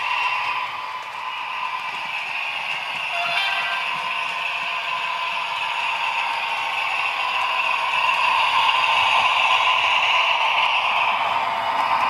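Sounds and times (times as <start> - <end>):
model train whirring rattle: 0.0 - 12.0.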